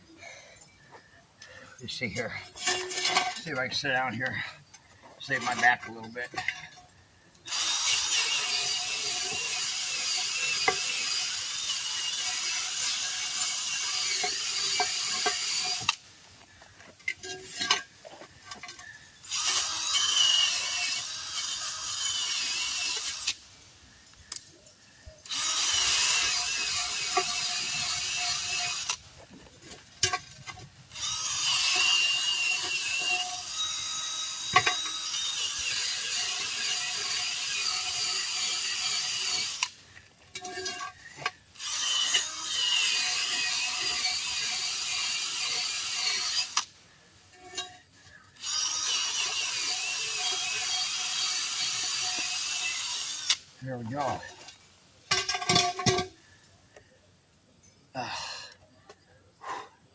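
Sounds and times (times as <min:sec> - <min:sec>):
abrasive tool scraping metal rim: 0:01.9 - 0:04.5, 0:05.2 - 0:06.8, 0:07.5 - 0:16.0, 0:17.0 - 0:23.4, 0:25.3 - 0:29.0, 0:29.6 - 0:46.7, 0:47.3 - 0:56.3.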